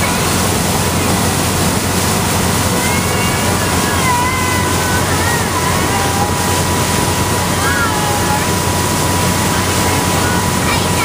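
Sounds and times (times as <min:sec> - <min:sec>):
motorboat engine: 0:00.0 - 0:11.0
water spray: 0:00.0 - 0:11.0.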